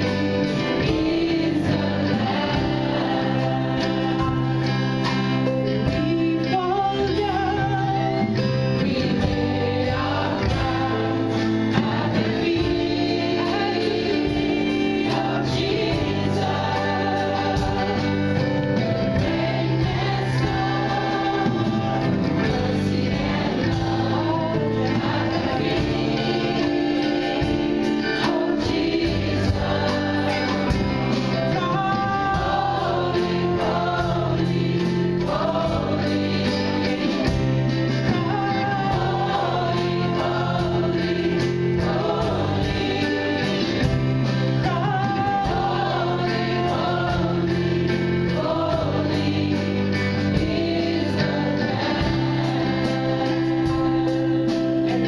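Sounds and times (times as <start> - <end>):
backing singers: 0.0 - 55.0
women singing lead: 0.0 - 55.0.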